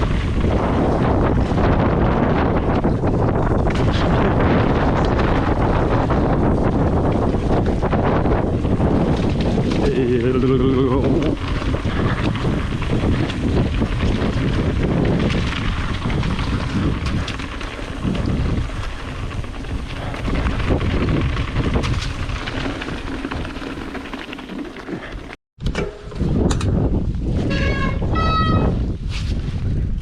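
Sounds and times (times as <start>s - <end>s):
bike knocks and rattles: 0.0s - 10.2s, 10.8s - 27.8s
tyre rumble on rocky trail: 0.0s - 25.4s
wind buffeting microphone: 0.0s - 30.0s.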